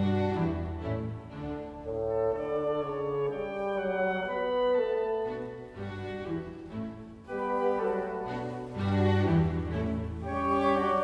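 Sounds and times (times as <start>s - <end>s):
slow orchestral strings: 0.0s - 11.0s.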